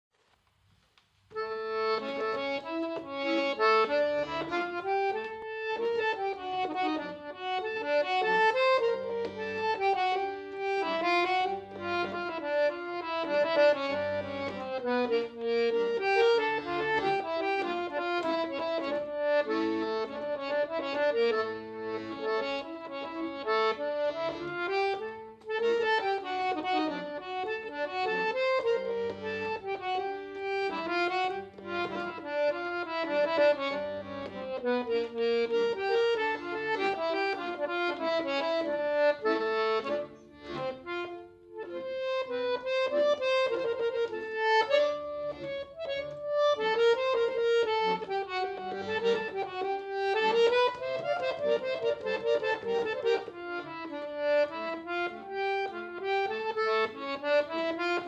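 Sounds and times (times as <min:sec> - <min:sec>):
accordion dance tune: 0:00.3 - 0:58.0.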